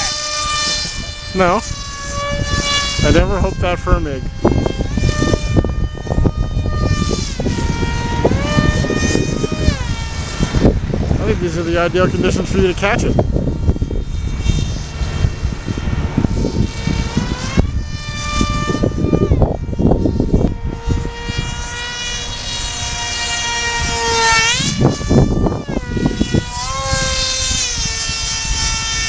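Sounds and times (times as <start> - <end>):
model plane motor whining: 0.0 - 29.0
wind buffeting microphone: 0.0 - 29.0.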